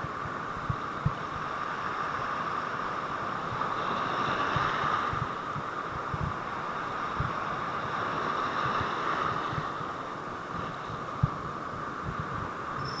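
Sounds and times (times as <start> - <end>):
surf washing over rocks: 0.0 - 12.9.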